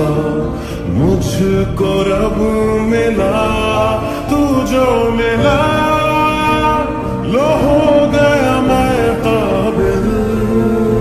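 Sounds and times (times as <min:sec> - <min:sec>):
romantic song melody: 0:00.0 - 0:11.0.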